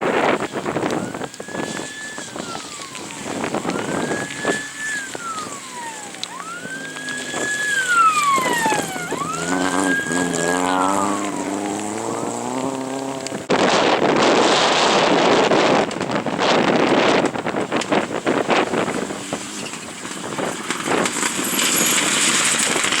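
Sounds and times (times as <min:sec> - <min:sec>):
high engine whine: 0:00.0 - 0:23.0
rally car engine revving: 0:00.0 - 0:23.0
wind rushing on microphone: 0:00.0 - 0:23.0.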